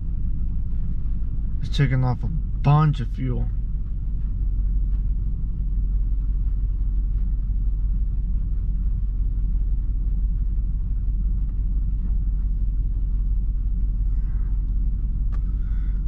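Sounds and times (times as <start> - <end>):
misfiring engine idling: 0.0 - 16.0.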